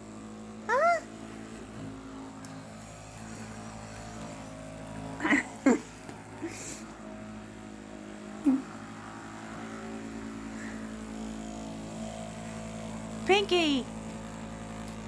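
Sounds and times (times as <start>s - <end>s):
massager motor humming: 0.0s - 15.0s.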